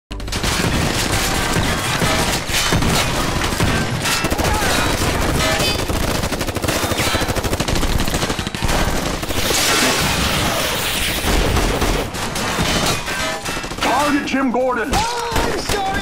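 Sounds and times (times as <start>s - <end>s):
automatic gunfire: 0.2s - 16.0s.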